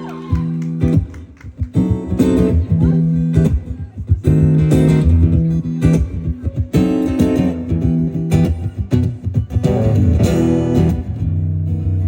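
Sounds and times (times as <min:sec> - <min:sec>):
strummed guitar chords: 0:00.0 - 0:12.0
live rock band playing: 0:00.8 - 0:12.0.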